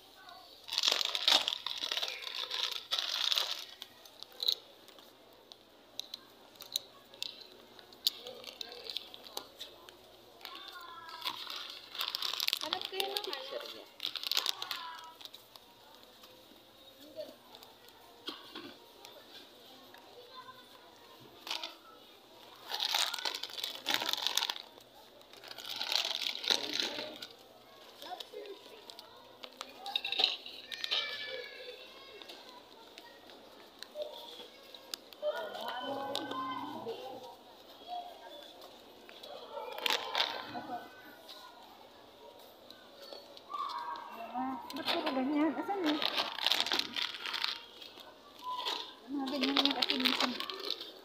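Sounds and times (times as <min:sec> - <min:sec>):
crinkling rustle: 0:00.2 - 0:51.0.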